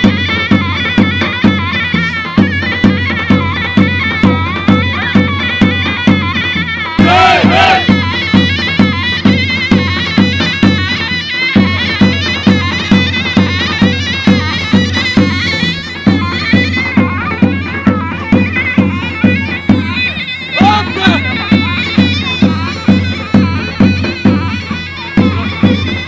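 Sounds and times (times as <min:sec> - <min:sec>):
steady drum beat: 0:00.0 - 0:26.0
shrill reed pipe melody: 0:00.3 - 0:26.0.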